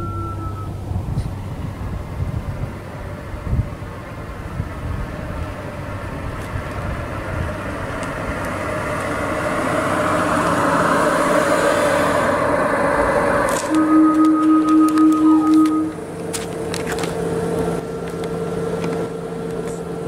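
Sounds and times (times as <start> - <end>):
electric car warning hum: 0.0 - 20.0
low fluttering rumble: 0.0 - 20.0.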